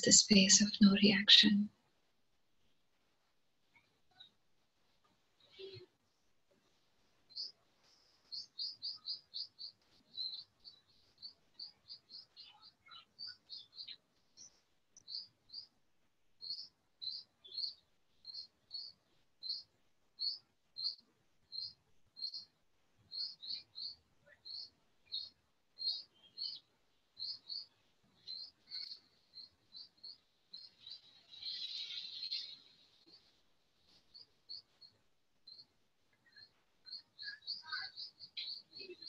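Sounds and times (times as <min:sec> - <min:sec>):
small bird chirping: 0:03.6 - 0:15.8, 0:16.4 - 0:39.0.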